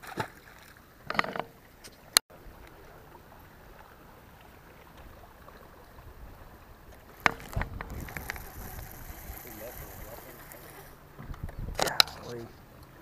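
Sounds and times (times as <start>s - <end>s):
faint wind: 0.0s - 13.0s
water noise around boat: 0.0s - 13.0s.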